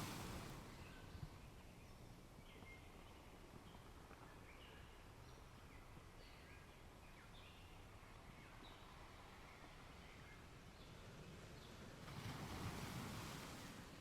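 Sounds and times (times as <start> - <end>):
outdoor ambient hiss: 0.0 - 14.0
songbirds chirping: 0.3 - 12.3.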